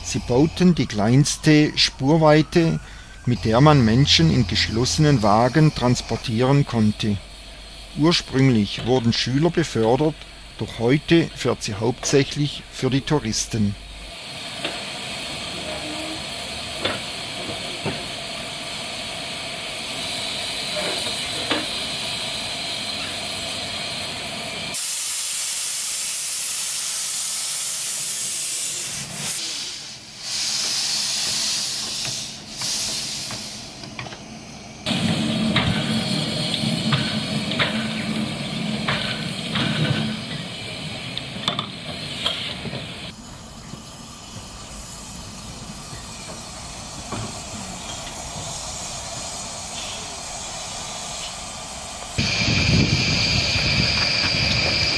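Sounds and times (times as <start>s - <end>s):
steam locomotive hissing: 0.0s - 54.9s.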